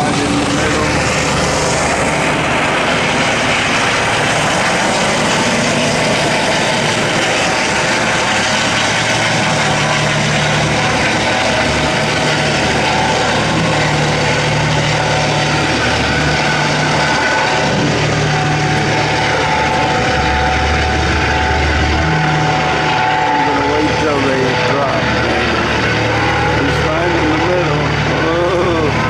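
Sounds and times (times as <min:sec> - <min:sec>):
wind and water rush: 0:00.0 - 0:27.4
boat engine running: 0:00.0 - 0:29.0.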